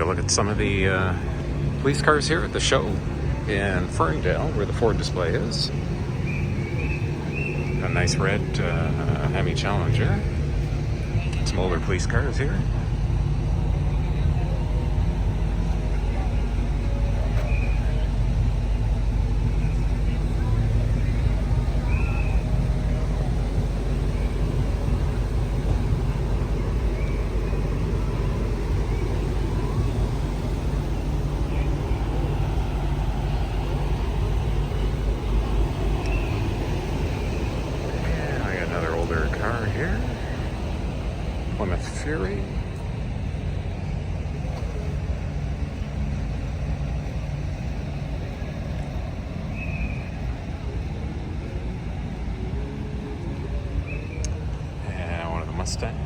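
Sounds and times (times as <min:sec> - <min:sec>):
low rumbling background noise: 0:00.0 - 0:56.0
vehicle engine noise: 0:00.0 - 0:56.0.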